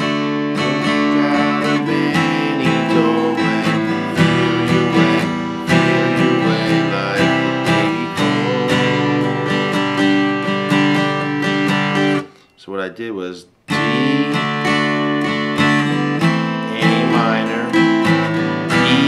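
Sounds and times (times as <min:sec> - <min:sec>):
guitar strummed funky rhythm: 0:00.0 - 0:12.6, 0:13.6 - 0:19.0.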